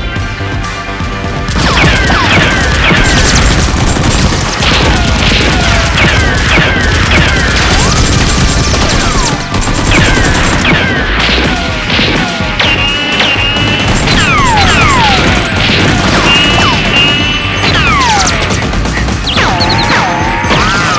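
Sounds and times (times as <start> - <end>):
gunfire bursts: 1.5 - 20.9.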